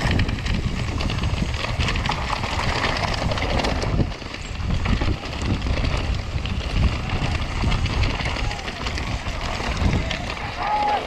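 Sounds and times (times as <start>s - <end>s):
bike rattling clicks and knocks: 0.0s - 11.0s
bike tyres rolling over rocks: 0.0s - 11.0s
wind buffeting microphone: 0.0s - 11.0s.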